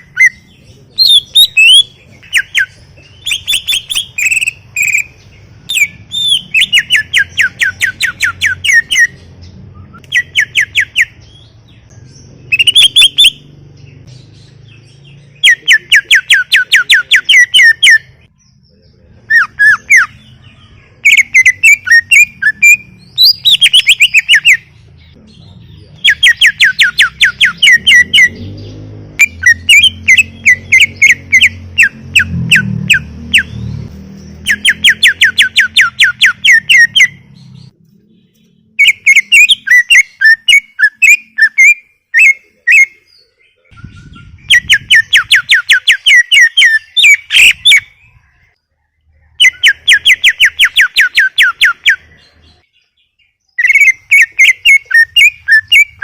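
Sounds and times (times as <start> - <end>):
bird whistling song: 0.0 - 18.6, 19.2 - 48.5, 49.2 - 56.0.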